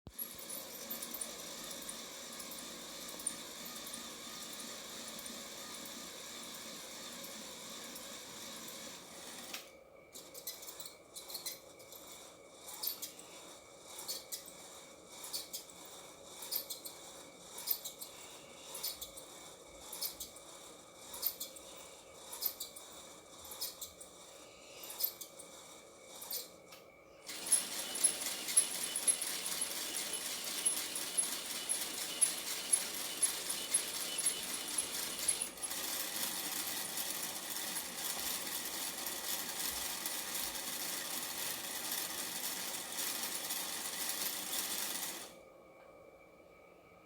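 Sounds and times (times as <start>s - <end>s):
small machine rattling whirr: 0.0s - 45.5s.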